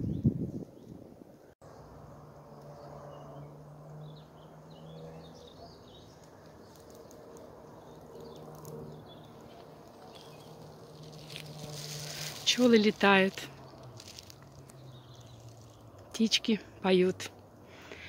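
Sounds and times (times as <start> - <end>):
small birds chirping: 2.7 - 18.0.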